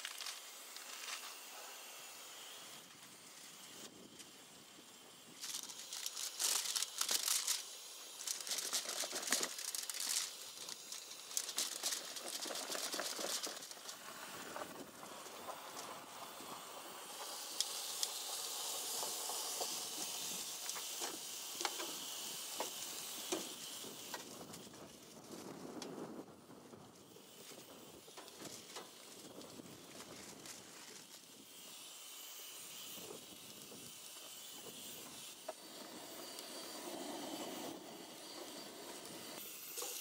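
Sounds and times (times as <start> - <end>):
food sizzling on griddle: 0.0 - 40.0.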